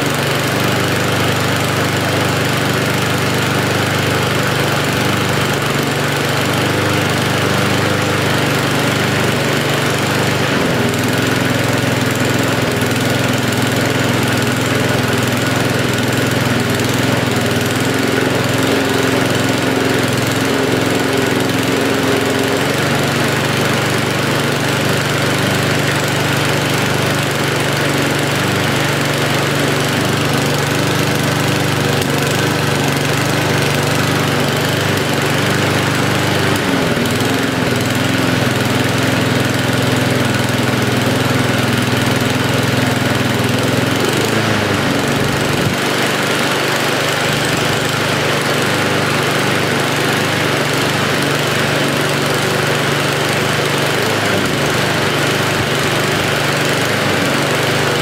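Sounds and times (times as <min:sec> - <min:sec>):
lawnmower engine running: 0:00.0 - 0:58.0.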